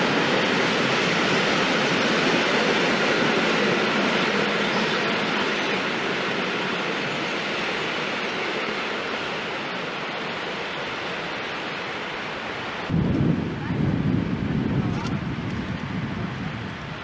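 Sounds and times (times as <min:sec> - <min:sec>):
freight train wheels on track: 0:00.0 - 0:17.0.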